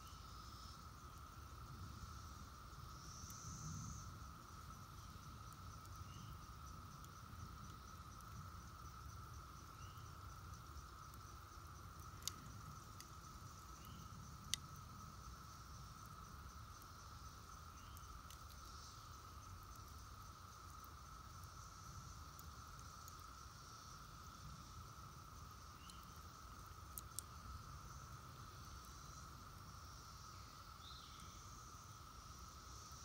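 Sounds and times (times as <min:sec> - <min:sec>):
distant cicada chorus drone: 0:00.0 - 0:33.0.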